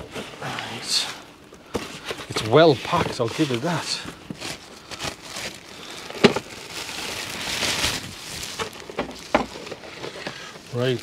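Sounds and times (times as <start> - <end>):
plastic bag crinkling: 1.9 - 11.0.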